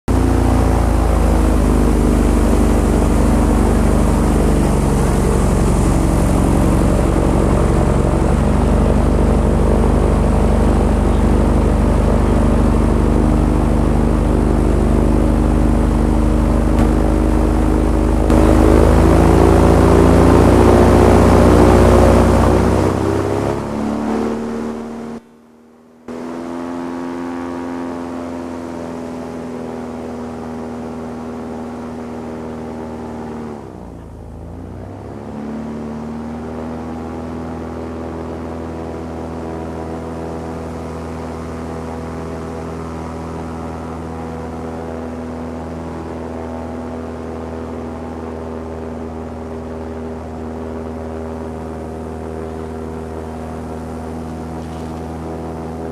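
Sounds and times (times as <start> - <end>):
airboat engine and propeller: 0.0 - 55.9.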